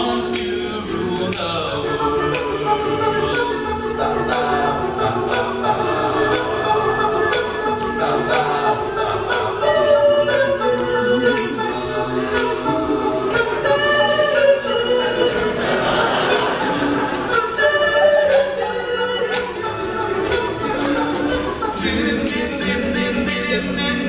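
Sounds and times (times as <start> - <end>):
male group singing in harmony: 0.0 - 24.0
vocal percussion beat: 0.0 - 24.0.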